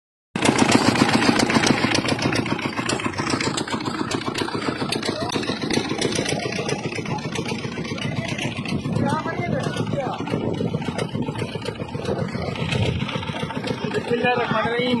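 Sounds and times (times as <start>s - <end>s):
small engine chugging: 0.4s - 15.0s.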